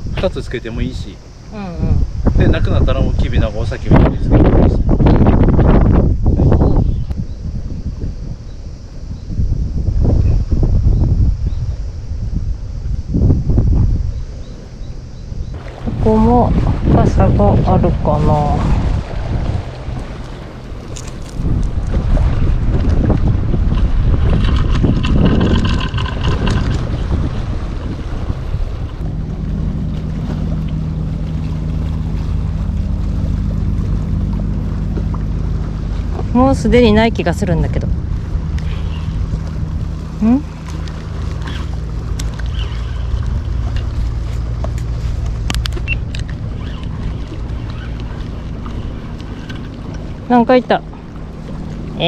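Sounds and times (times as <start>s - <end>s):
steady low hum: 0.0s - 52.0s
wind buffeting microphone: 0.0s - 52.0s.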